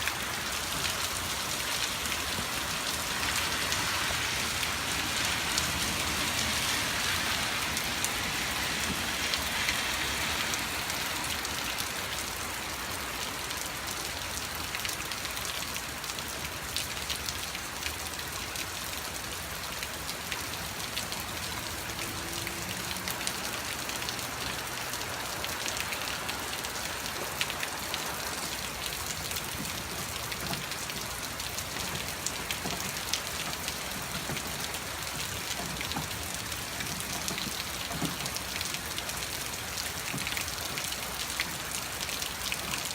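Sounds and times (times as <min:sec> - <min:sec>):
heavy rain pattering: 0:00.0 - 0:42.9.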